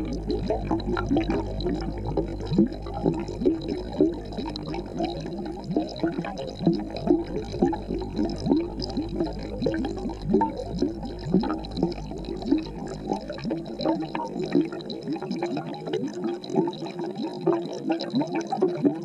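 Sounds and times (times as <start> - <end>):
low steady hum: 0.0 - 17.2
aquarium water bubbling: 0.0 - 19.0.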